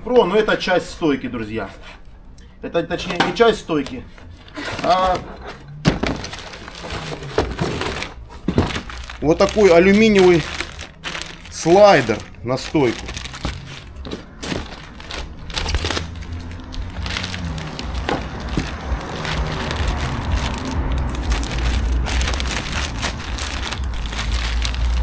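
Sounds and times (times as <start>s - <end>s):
packaging crinkling and crackling: 3.8s - 25.0s.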